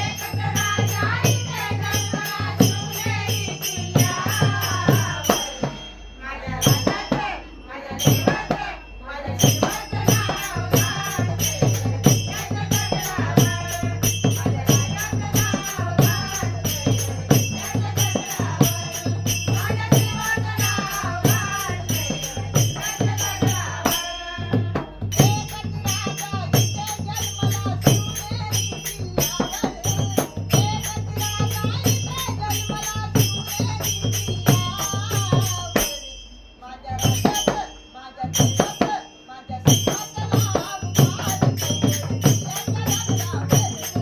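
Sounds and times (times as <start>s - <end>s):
jingling tambourine-like percussion: 0.0s - 44.0s.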